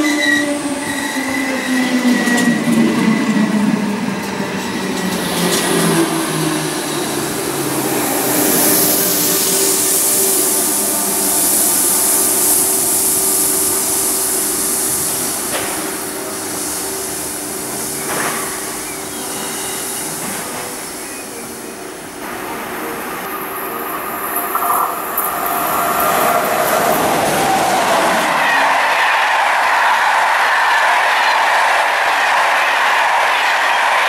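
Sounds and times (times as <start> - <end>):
electric train whine and rolling hiss: 0.0 - 34.0.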